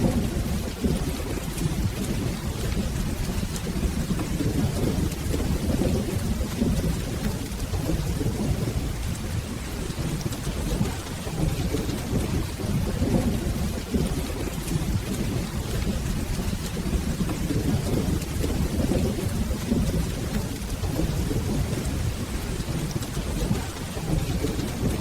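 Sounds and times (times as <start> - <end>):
rain falling: 0.0 - 25.0
rolling thunder: 0.0 - 25.0.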